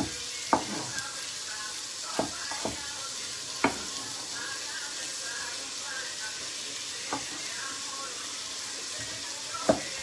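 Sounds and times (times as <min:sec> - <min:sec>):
steady sizzle: 0:00.0 - 0:10.0.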